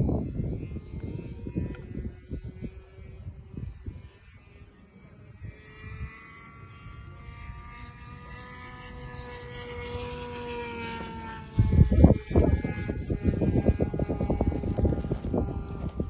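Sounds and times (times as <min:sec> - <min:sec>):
low gusty rumble: 0:00.0 - 0:04.3, 0:05.3 - 0:16.0
rc helicopter motor whine: 0:00.0 - 0:16.0.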